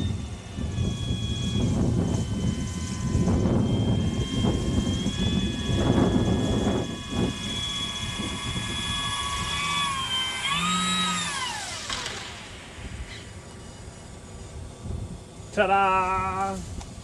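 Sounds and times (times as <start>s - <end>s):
model aircraft motor whining: 0.0s - 17.0s.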